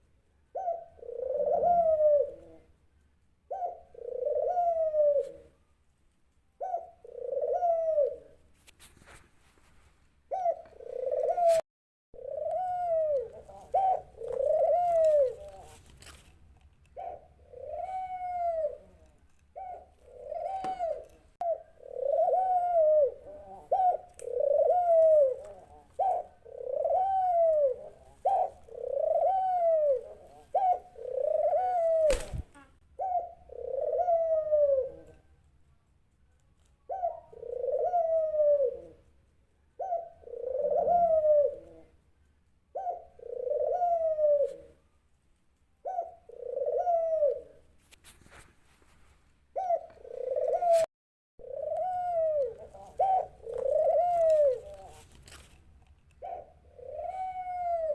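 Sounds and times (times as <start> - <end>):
dove cooing: 0.5 - 2.8, 3.5 - 5.6, 6.6 - 8.5, 10.3 - 11.6, 12.2 - 16.2, 16.9 - 35.3, 36.8 - 39.1, 39.8 - 42.0, 42.7 - 44.8, 45.8 - 47.7, 49.5 - 55.5, 56.2 - 57.9.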